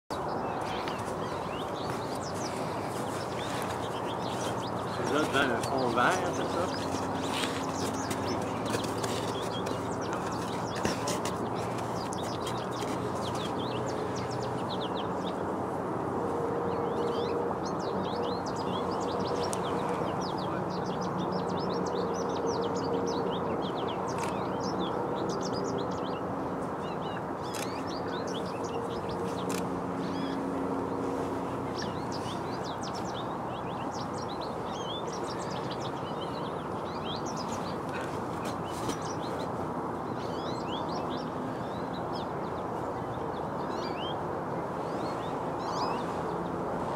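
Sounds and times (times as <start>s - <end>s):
songbirds chirping: 0.1s - 46.9s.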